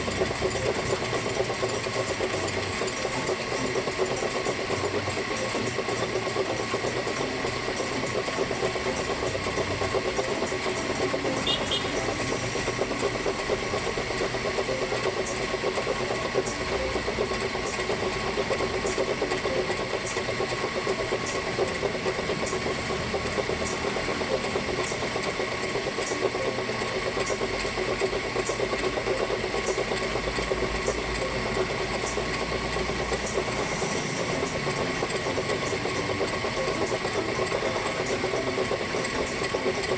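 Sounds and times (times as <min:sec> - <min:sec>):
machinery humming: 0:00.0 - 0:39.9.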